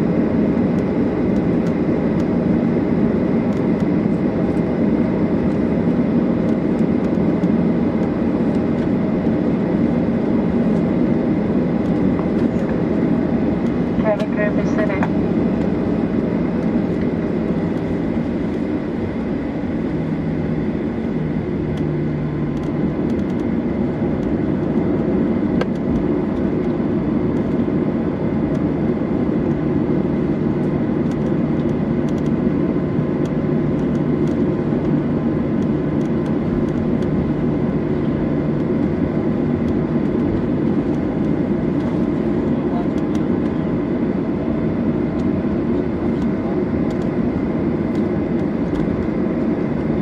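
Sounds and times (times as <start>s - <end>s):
aircraft cabin engine noise: 0.0s - 50.0s
low hum: 0.0s - 50.0s.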